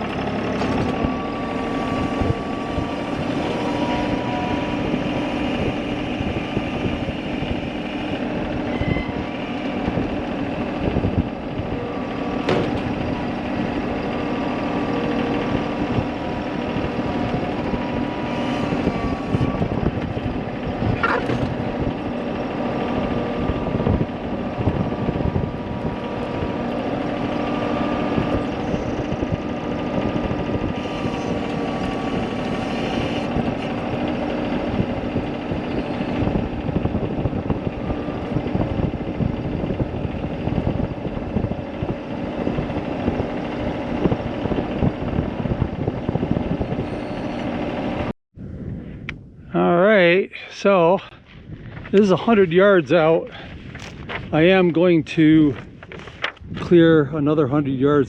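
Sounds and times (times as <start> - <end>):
vehicle engine running: 0.0 - 48.1, 51.0 - 57.6.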